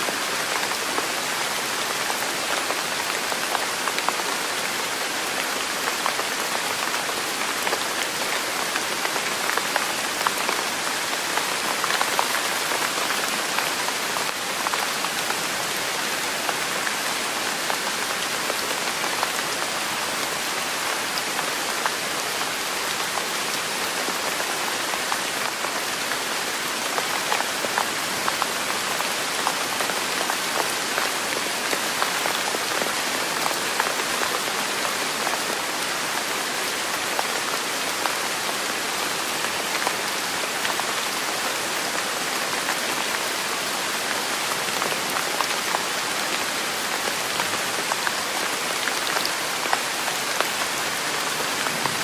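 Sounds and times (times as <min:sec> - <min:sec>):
steady rain hissing: 0:00.0 - 0:52.0.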